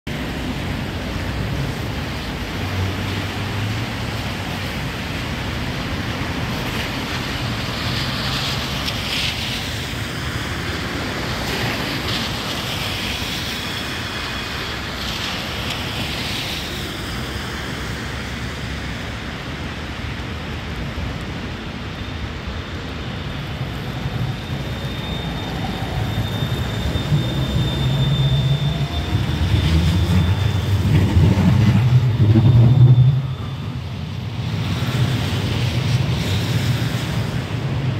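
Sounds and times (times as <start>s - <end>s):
traffic hiss on wet street: 0.1s - 37.9s
tram passing with hum and whine: 0.1s - 37.9s.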